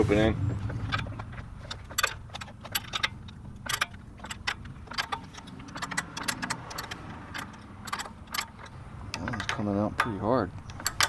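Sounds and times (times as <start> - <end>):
low hum: 0.0 - 9.4
wrench clinking against bolts: 0.6 - 11.0.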